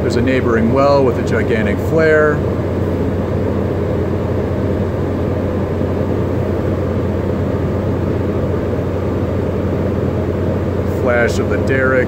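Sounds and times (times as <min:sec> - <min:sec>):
drilling machinery droning: 0:00.0 - 0:12.0.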